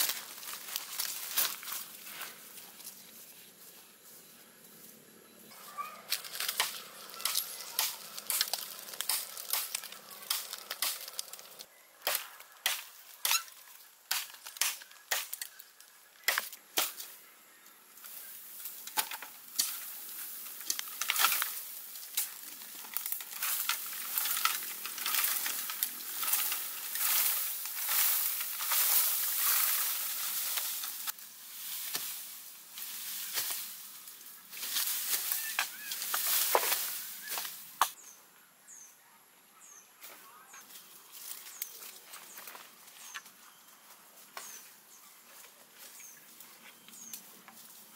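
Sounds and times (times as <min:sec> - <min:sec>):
bamboo leaves crackling and rustling: 0:00.0 - 0:38.0, 0:40.0 - 0:47.9.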